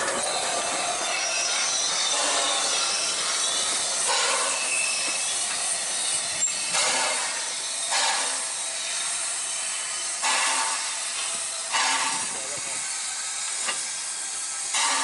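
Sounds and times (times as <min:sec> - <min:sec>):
steam hissing: 0:00.0 - 0:15.0
steam locomotive exhaust chuffs: 0:00.0 - 0:15.0.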